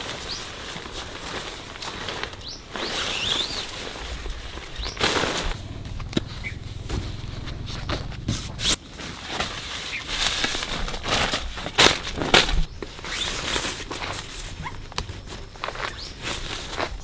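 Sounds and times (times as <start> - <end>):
rustling and scraping: 0.0 - 17.0.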